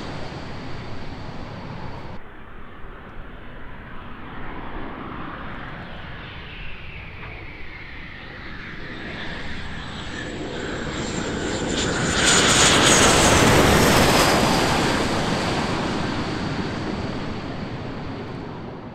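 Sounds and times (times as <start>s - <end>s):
jet engines rushing and whining: 0.0s - 18.9s.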